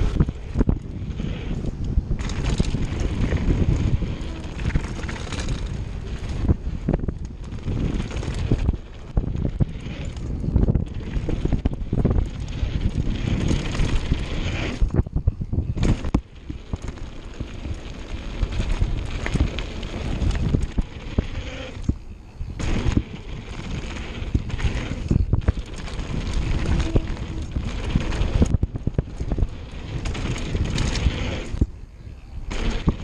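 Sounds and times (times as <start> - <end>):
bike knocks and rattles: 0.0 - 31.8, 32.4 - 33.0
bike tyre rumble: 0.0 - 33.0
wind buffeting microphone: 0.0 - 33.0.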